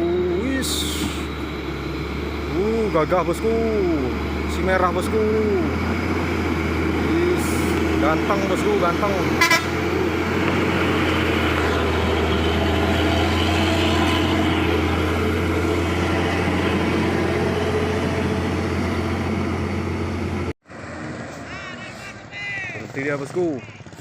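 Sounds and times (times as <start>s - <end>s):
road noise: 0.0s - 24.0s
truck diesel engine running: 0.0s - 24.0s.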